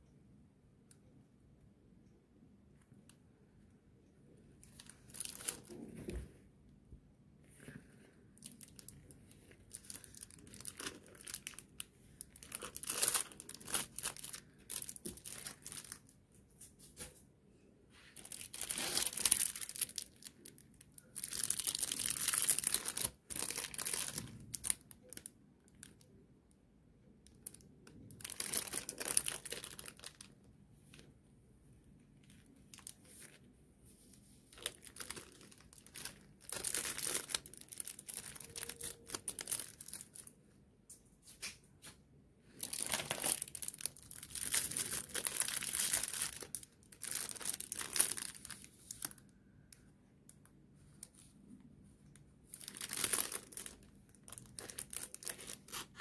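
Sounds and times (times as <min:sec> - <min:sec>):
plastic sleeves crinkling and tearing: 0:04.6 - 0:06.2, 0:07.5 - 0:17.1, 0:18.0 - 0:26.2, 0:27.2 - 0:31.1, 0:32.2 - 0:40.3, 0:41.3 - 0:51.4, 0:52.0 - 0:56.0.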